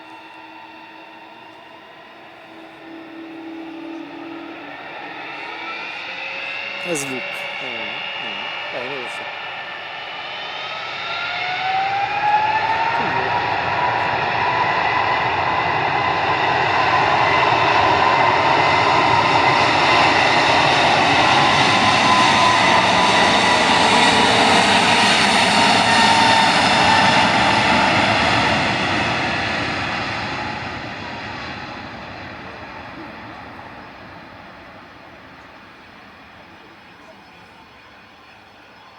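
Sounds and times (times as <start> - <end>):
jet engines roaring with whine: 0.0 - 38.9.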